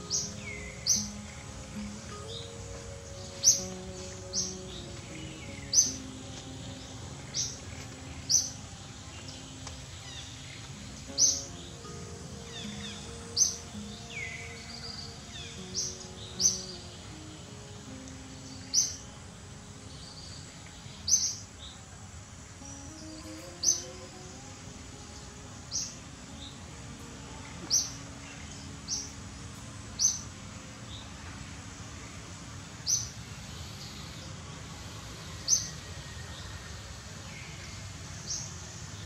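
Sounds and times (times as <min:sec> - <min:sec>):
bird chirping: 0:00.0 - 0:22.0, 0:22.6 - 0:36.6
outdoor background hiss: 0:00.0 - 0:39.0.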